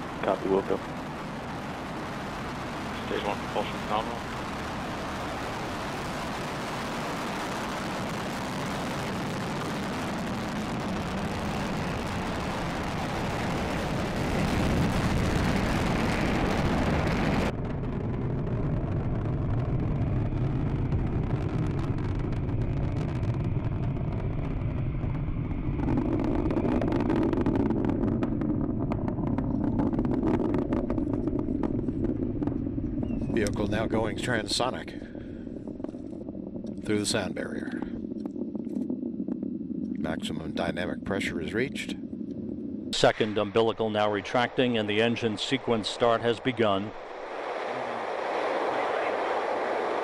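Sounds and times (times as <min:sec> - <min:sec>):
rocket engines rumbling: 0:00.0 - 0:50.0.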